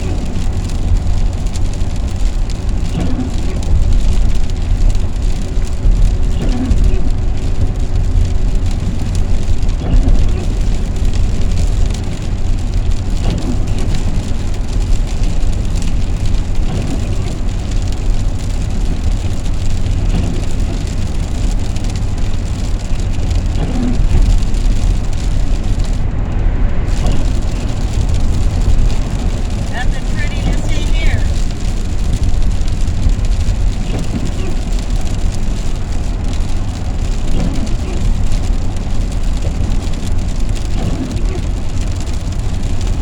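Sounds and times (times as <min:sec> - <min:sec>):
engine and tyre rumble: 0:00.0 - 0:43.0
tyres hissing on wet road: 0:00.0 - 0:43.0.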